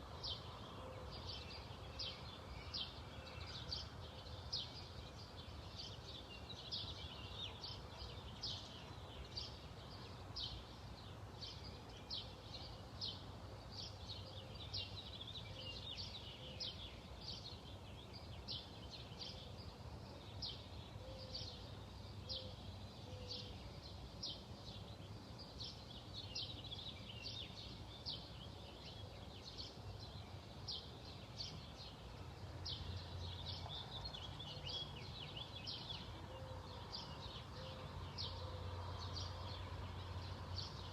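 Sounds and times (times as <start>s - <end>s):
faint outdoor background noise: 0.0s - 40.9s.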